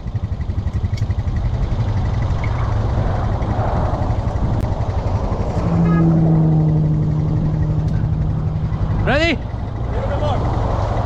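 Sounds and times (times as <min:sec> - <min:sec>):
vehicle engine running: 0:00.0 - 0:11.0
steady humming tone: 0:00.8 - 0:10.2.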